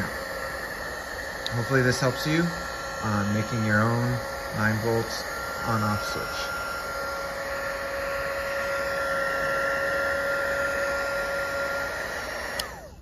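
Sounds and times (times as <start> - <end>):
heat gun blower hissing and whining: 0.0 - 13.0.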